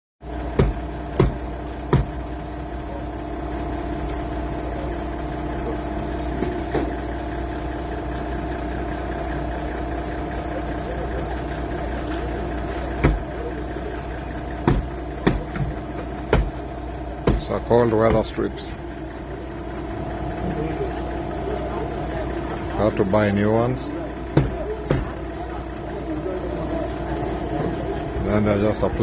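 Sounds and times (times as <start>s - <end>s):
diesel engine idling: 0.2s - 29.0s.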